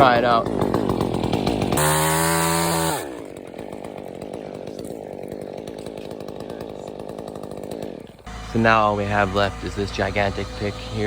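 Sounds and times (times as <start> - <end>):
chainsaw revving and idling: 0.0 - 11.0.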